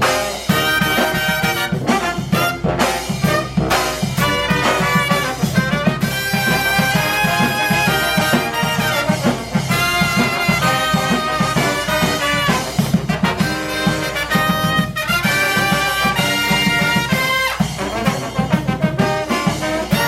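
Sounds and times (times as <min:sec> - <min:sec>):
brass band playing: 0:00.0 - 0:20.0
horns playing melody: 0:00.0 - 0:20.0.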